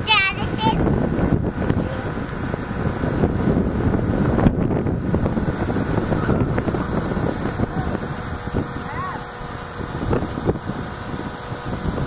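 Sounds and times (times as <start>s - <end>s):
distant quad engine drone: 0.0s - 12.0s
wind buffeting microphone: 0.0s - 12.0s.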